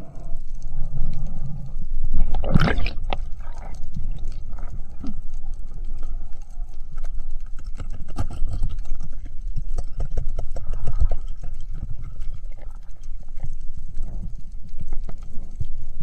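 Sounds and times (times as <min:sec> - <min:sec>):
clicks and knocks underwater: 0:00.0 - 0:16.0
underwater rumble of moving water: 0:00.0 - 0:16.0.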